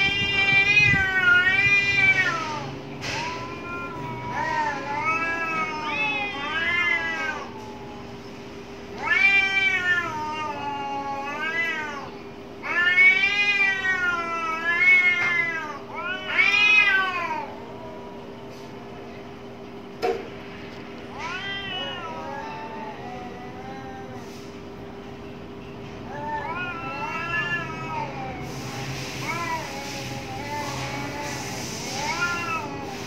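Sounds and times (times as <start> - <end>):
cats yowling: 0.0 - 19.4, 20.8 - 25.1, 26.0 - 33.0.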